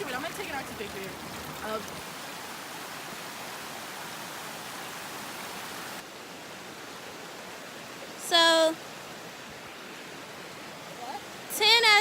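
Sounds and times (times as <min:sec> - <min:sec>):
creek rushing over rocks: 0:00.0 - 0:11.7.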